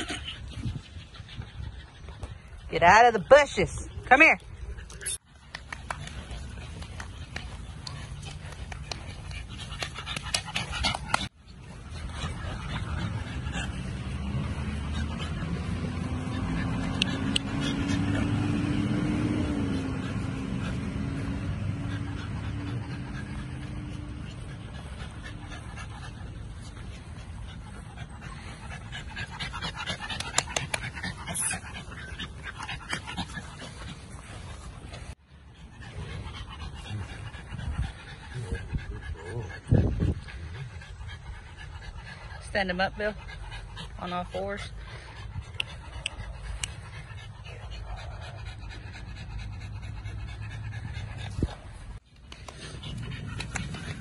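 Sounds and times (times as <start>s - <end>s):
puppy panting: 0.0s - 54.0s.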